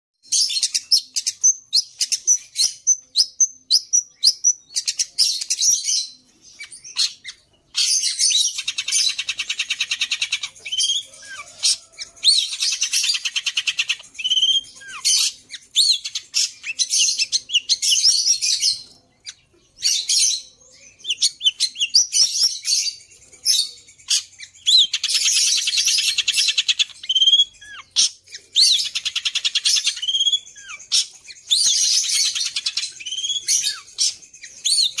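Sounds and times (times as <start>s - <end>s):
bird singing chirps and trills: 0.2s - 35.0s.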